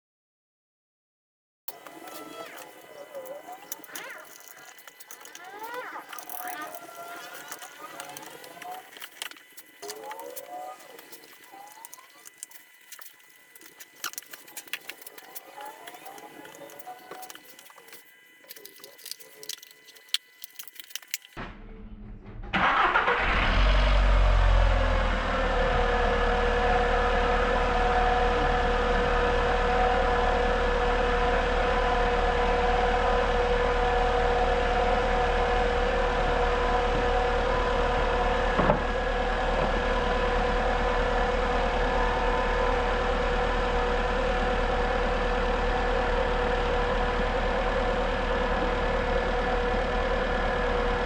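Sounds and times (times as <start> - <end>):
car engine idling with whine: 1.7 - 21.4, 22.5 - 51.0.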